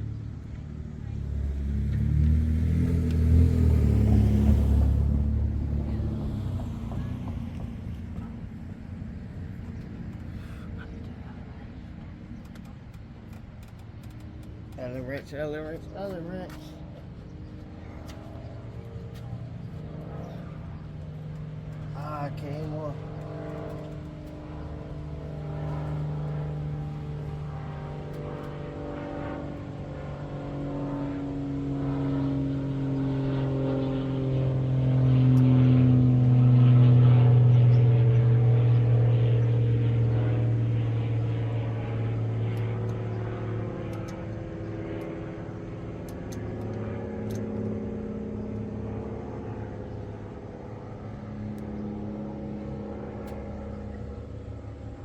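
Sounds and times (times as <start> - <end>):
vehicle engine hum: 0.0 - 55.0.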